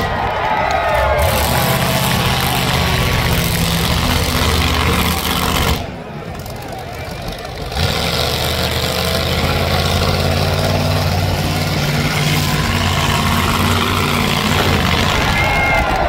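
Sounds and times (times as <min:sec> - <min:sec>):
car engines running: 0:00.0 - 0:16.0
close engine low drone: 0:00.0 - 0:16.0.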